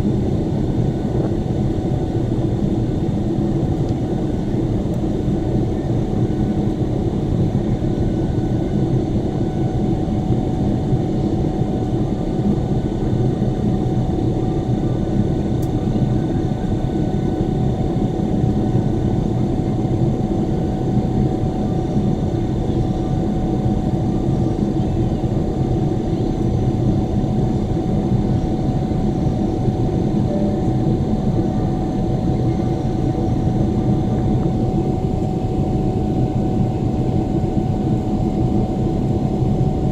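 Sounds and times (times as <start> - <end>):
faint steady whines: 0.0 - 39.9
jet airliner cabin drone: 0.0 - 39.9.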